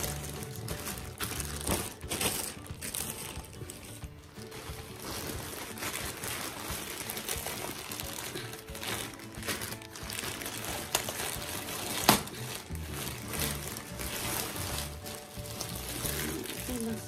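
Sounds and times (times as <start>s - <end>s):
plastic mailer bag crinkling: 0.0s - 17.0s
soft background music: 0.0s - 17.0s.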